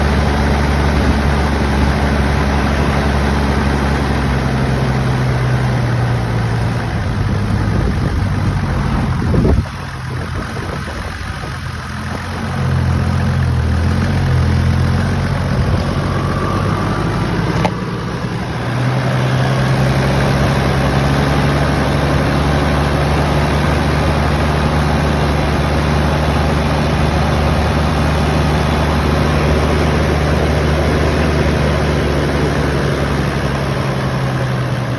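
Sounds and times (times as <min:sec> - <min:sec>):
diesel engine idling roughly: 0:00.0 - 0:34.9.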